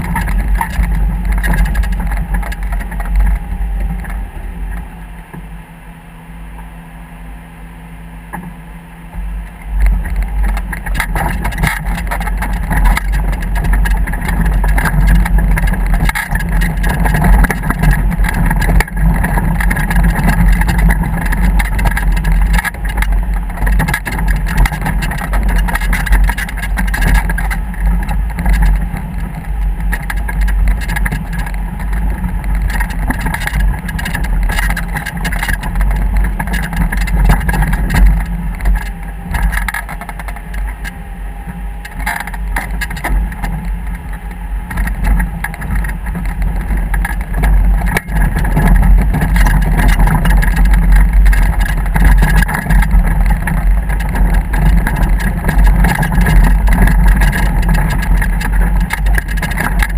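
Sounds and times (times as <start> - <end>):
rushing wind and water: 0.0 - 5.1, 9.1 - 59.9
motorboat engine: 0.0 - 59.9.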